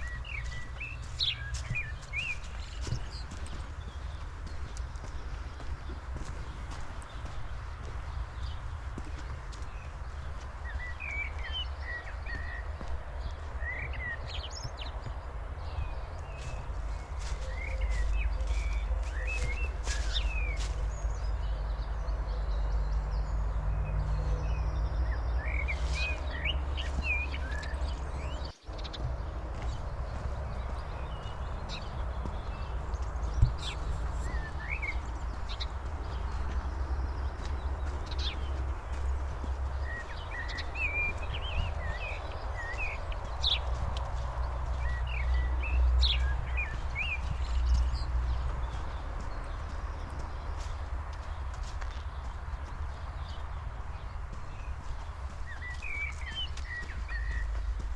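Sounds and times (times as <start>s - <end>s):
small songbirds chirping: 0.0s - 57.9s.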